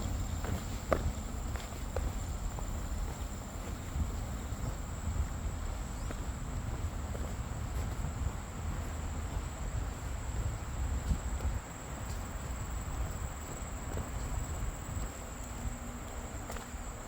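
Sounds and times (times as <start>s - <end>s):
faint footsteps: 0.0s - 17.0s
insects high-pitched drone: 0.0s - 17.0s.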